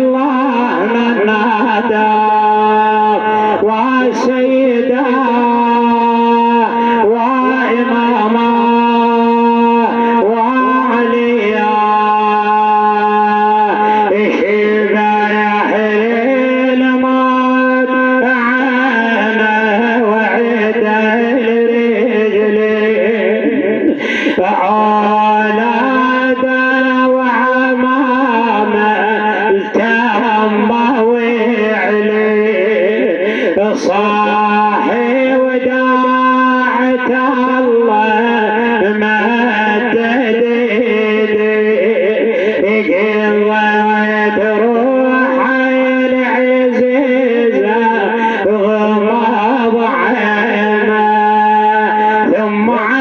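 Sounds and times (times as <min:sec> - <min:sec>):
voices chanting a lament: 0:00.0 - 0:53.0.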